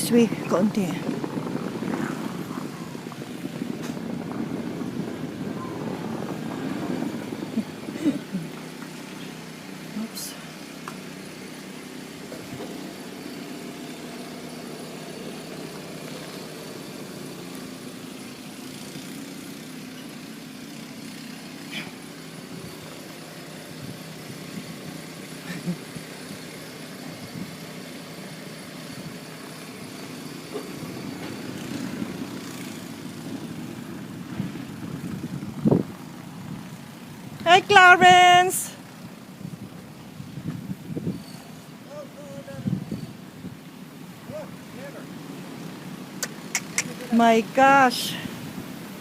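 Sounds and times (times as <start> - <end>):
car engine running at low revs: 0.0 - 49.0.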